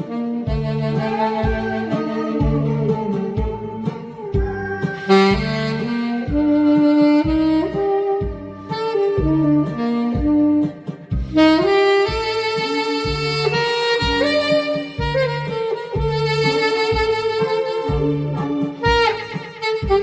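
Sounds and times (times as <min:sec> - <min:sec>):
saxophone melody: 0:00.0 - 0:20.0
backing track with bass beat: 0:00.5 - 0:20.0.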